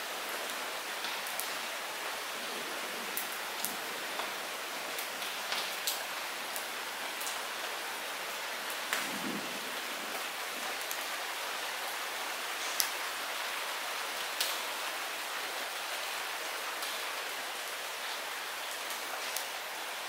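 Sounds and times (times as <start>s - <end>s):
light rain hissing: 0.0s - 20.0s.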